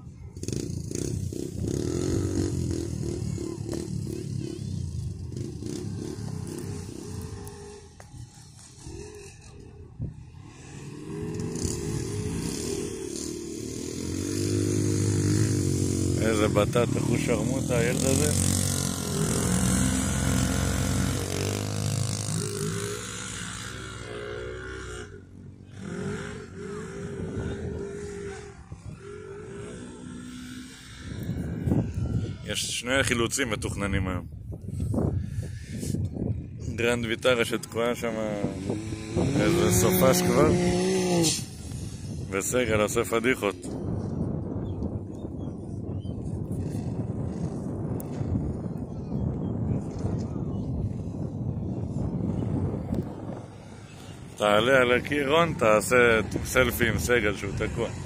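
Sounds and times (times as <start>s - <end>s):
off-road engine revving: 0.3s - 34.0s, 36.7s - 44.3s, 51.8s - 58.0s.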